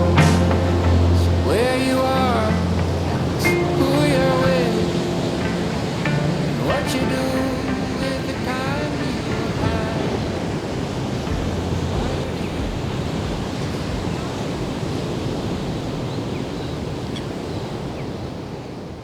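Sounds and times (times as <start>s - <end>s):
ocean surf breaking: 0.0s - 18.6s.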